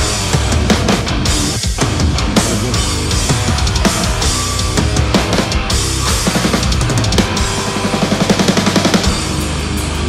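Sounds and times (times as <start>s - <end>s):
heavy metal band playing: 0.0s - 10.0s
rapid drum and cymbal hits: 0.0s - 10.0s.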